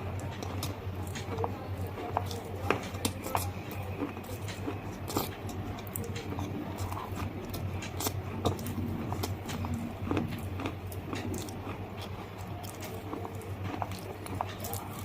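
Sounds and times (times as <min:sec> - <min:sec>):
crunching and chewing brittle food: 0:00.0 - 0:15.0
steady low hum: 0:00.0 - 0:15.0.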